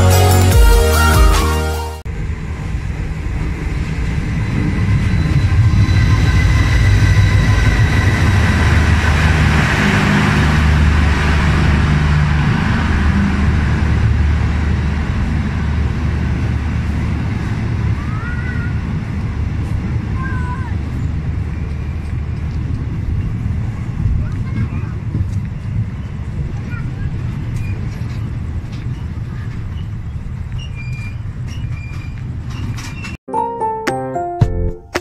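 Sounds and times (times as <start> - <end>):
train wheels rumbling on rail: 2.1 - 33.2.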